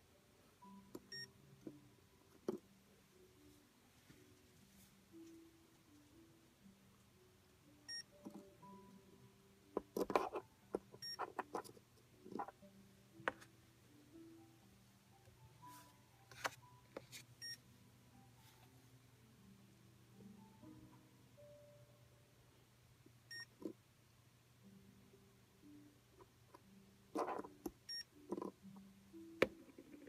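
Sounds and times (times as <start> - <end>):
faint music: 0.0 - 30.0.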